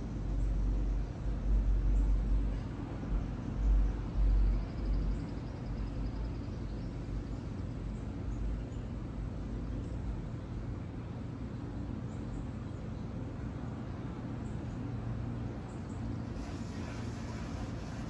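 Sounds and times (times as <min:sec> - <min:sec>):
low outdoor hum: 0:00.0 - 0:18.0.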